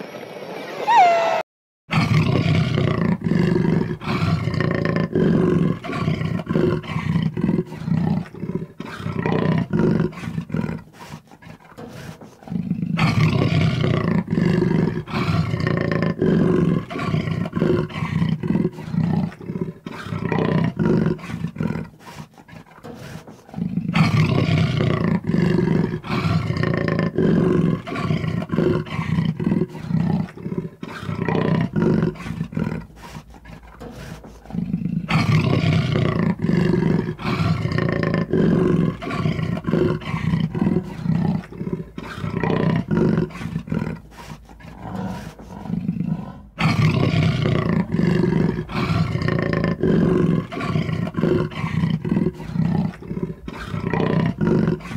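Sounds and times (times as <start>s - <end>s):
jaguar roaring: 1.9s - 54.9s.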